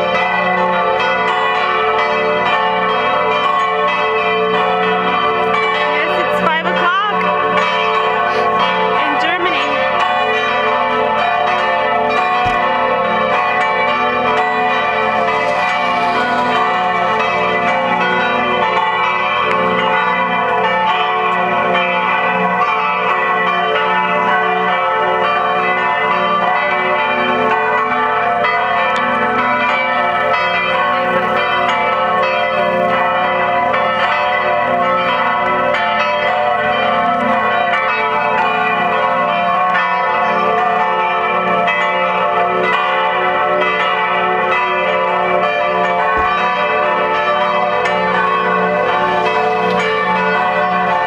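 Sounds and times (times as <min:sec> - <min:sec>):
church bells pealing: 0:00.0 - 0:51.0.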